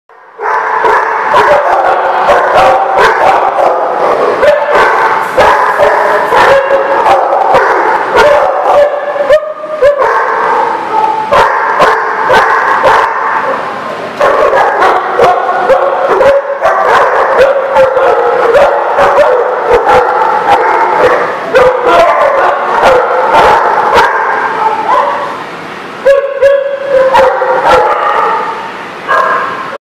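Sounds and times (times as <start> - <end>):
dogs barking and whining: 0.1 - 29.8.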